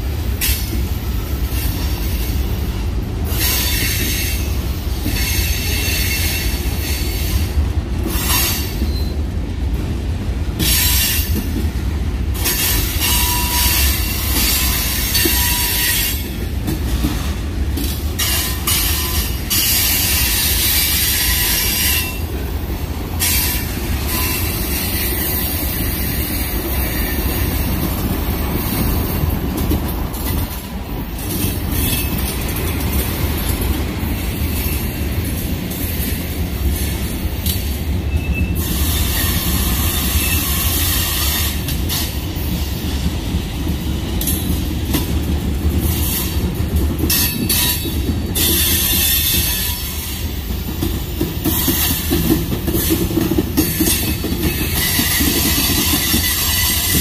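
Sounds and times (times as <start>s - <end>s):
freight train rumbling: 0.0s - 57.0s
train clatter: 0.0s - 57.0s.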